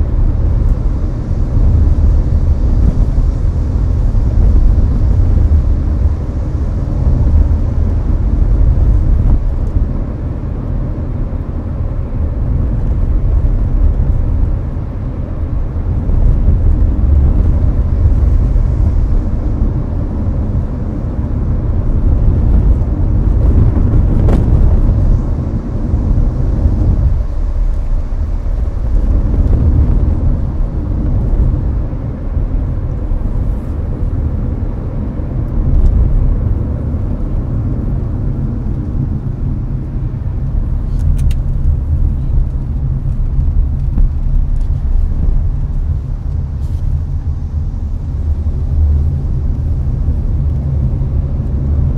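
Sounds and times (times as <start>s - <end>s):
air conditioning fan blowing: 0.0s - 51.9s
road and tyre rumble: 0.0s - 51.9s.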